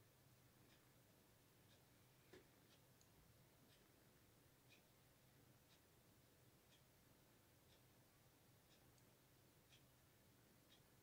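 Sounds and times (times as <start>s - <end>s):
soft ticking: 0.0s - 11.0s.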